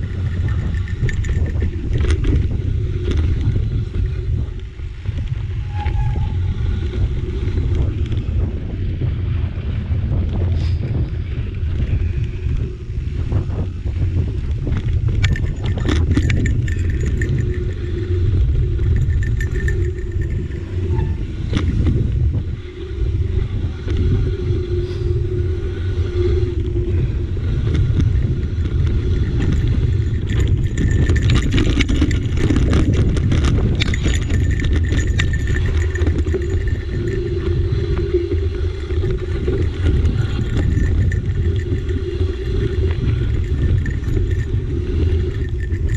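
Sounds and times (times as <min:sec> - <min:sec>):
bike rattling clicks: 0:00.0 - 0:45.9
wind buffeting microphone: 0:00.0 - 0:45.9.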